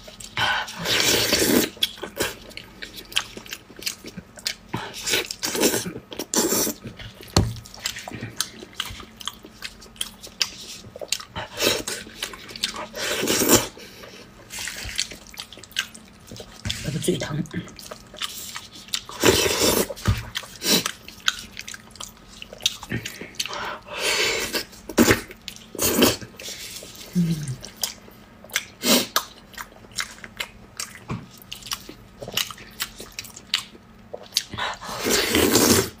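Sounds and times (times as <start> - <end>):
wet chewing and lip-smacking: 0.0 - 16.8, 17.5 - 23.7, 24.6 - 35.8.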